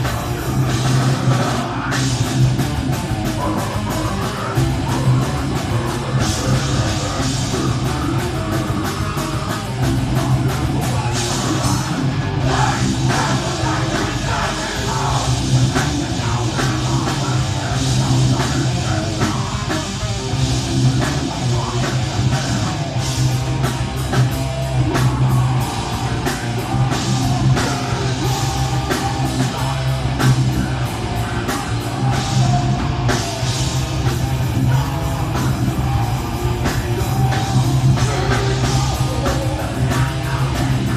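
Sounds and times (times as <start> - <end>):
live rock band playing: 0.0 - 40.9
pounding drum kit: 0.0 - 40.9
person singing: 3.3 - 20.0, 24.8 - 40.9.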